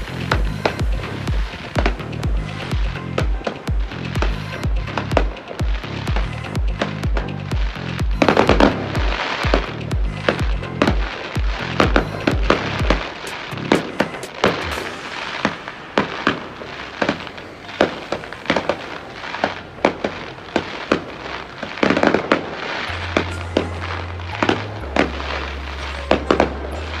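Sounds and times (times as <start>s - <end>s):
music with deep bass: 0.0s - 17.0s, 20.1s - 27.0s
fireworks bursting with sharp bangs: 0.0s - 27.0s.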